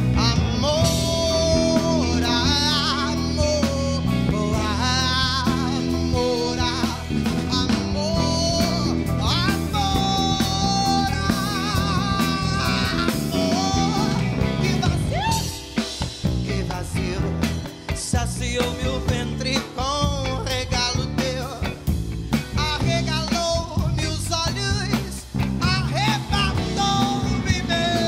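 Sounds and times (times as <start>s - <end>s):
bass: 0.0s - 28.0s
drum kit: 0.0s - 28.0s
electric keyboard chords: 0.0s - 28.0s.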